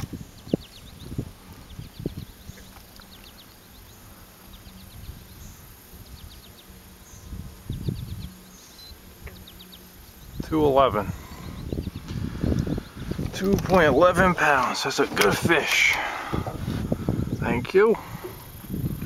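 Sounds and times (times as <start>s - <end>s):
insects chirping: 0.2s - 19.0s.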